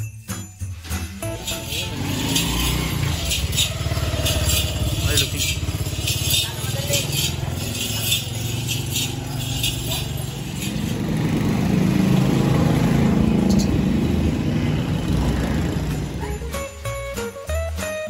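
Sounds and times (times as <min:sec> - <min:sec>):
music with jingling bells: 0:00.0 - 0:18.0
street noise: 0:00.0 - 0:18.0
vehicle engine running: 0:00.7 - 0:17.6.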